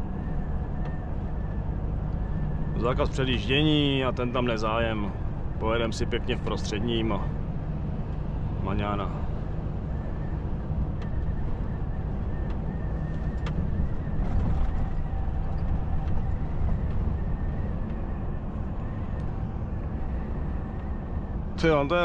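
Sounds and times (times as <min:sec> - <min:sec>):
truck cab road rumble: 0:00.0 - 0:22.0.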